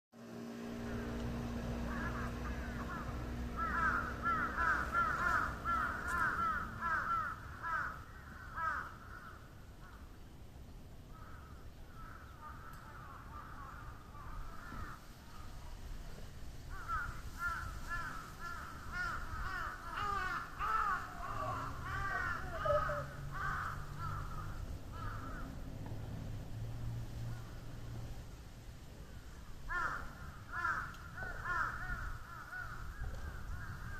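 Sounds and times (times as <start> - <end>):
crows cawing: 0.8 - 10.1, 11.1 - 15.5, 16.7 - 25.6, 29.1 - 33.9.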